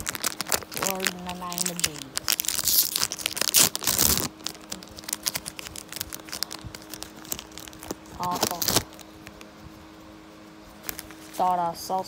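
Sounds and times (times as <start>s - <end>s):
foil tearing and crinkling: 0.0s - 9.5s, 10.8s - 11.6s
wrapper and cards crinkling: 0.0s - 9.6s, 10.8s - 11.6s.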